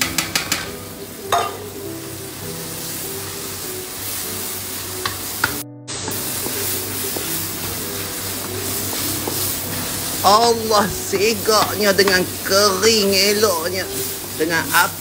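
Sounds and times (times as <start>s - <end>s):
cockles sizzling in sauce: 0.0s - 15.0s.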